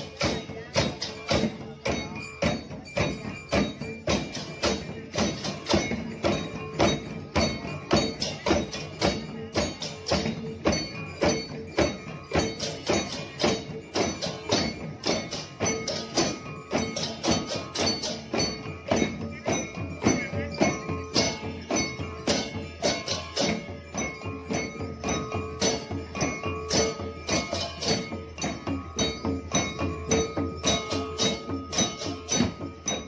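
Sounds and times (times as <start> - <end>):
drums and cymbals fast beat: 0.0 - 33.0.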